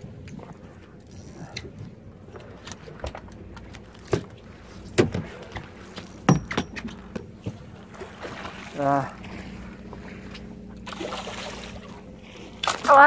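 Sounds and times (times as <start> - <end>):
knocks and rattles on boat: 0.0 - 13.0
low background rumble: 0.0 - 13.0.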